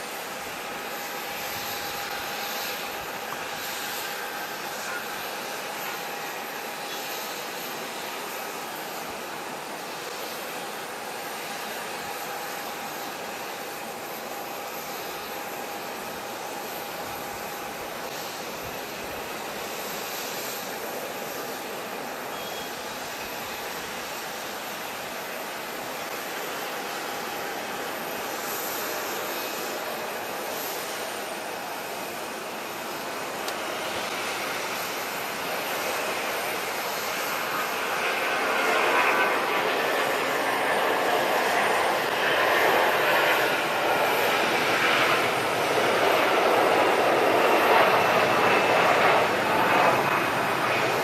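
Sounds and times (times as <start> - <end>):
jet engines rumbling and whining: 0.0 - 51.0.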